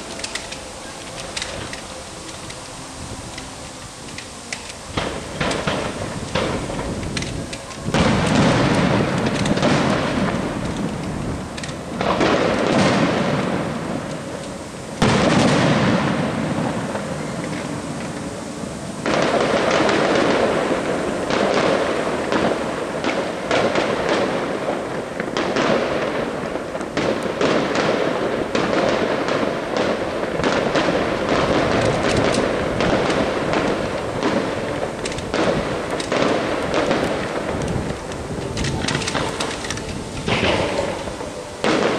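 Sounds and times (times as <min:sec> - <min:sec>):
firework shells booming: 0:00.0 - 0:41.9
fireworks crackling and popping: 0:00.0 - 0:41.9.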